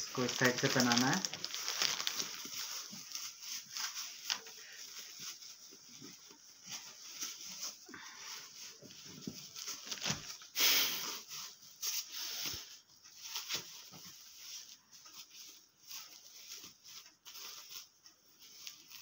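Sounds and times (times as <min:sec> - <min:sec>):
diaper rustling and crinkling: 0:00.0 - 0:19.0.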